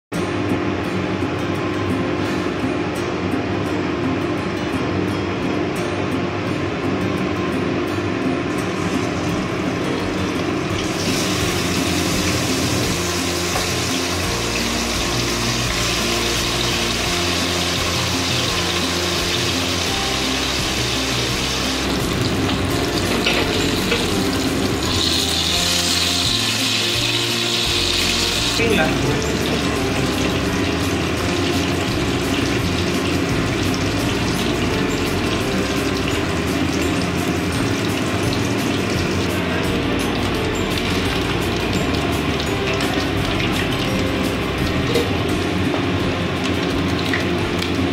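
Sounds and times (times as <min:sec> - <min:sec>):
fish sizzling in hot oil: 0:08.7 - 0:45.6, 0:46.2 - 0:47.9.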